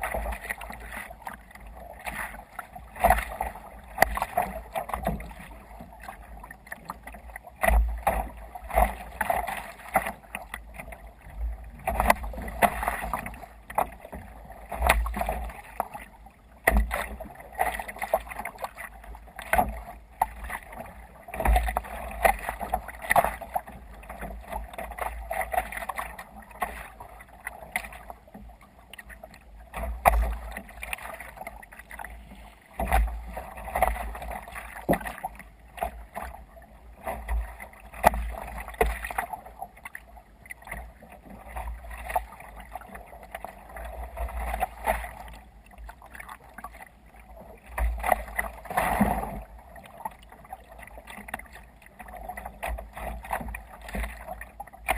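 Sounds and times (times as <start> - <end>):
water splashing against kayak hull: 0.0 - 54.9.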